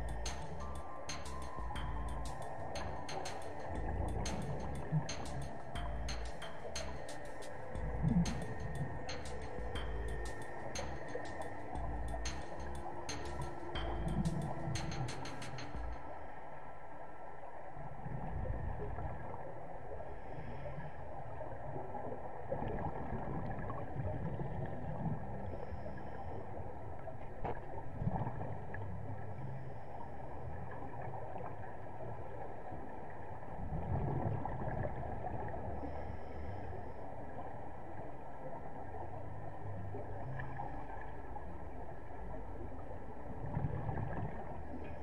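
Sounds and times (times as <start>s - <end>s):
muffled underwater rumble: 0.0s - 45.0s.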